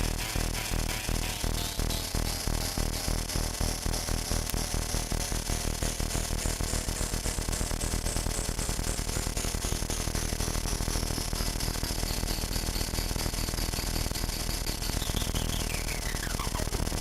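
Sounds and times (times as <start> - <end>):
synthesizer buzzing drone: 0.0 - 17.0.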